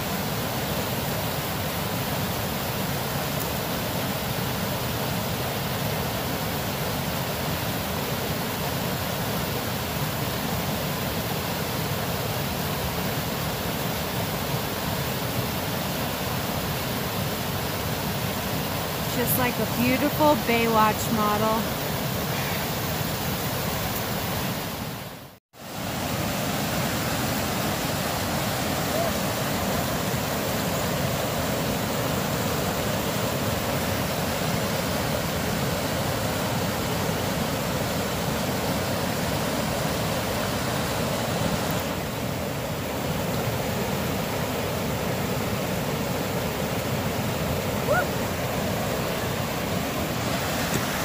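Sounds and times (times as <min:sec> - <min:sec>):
creek rushing over rocks: 0:00.0 - 0:51.0.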